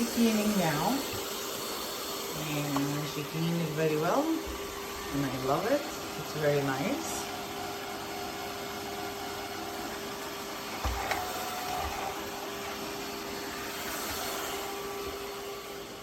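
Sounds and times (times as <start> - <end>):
robot vacuum whirring: 0.0 - 7.4, 9.1 - 16.0.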